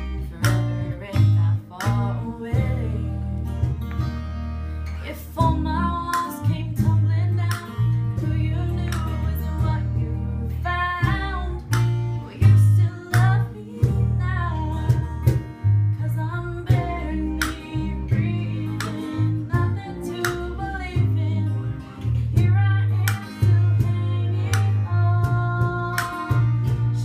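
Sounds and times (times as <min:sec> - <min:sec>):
strummed acoustic guitar: 0:00.0 - 0:27.0
woman singing a country song: 0:00.0 - 0:27.0.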